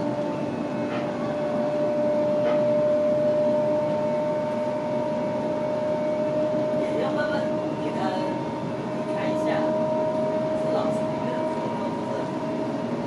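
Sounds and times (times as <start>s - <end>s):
wheels rumbling on track: 0.0s - 13.0s.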